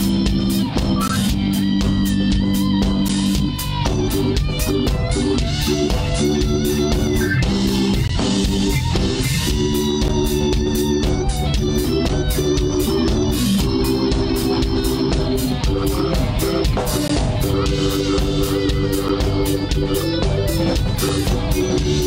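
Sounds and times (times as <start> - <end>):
electric guitar: 0.0 - 22.0
organ chords: 0.0 - 22.0
steady drum beat: 0.0 - 22.0.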